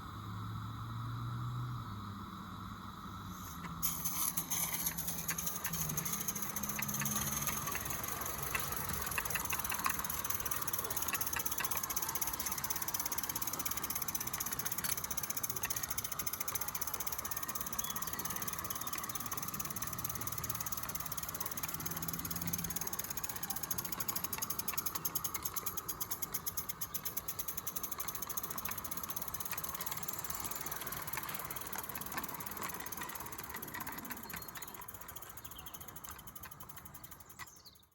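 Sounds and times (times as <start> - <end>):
model steam locomotive running: 3.2 - 37.9.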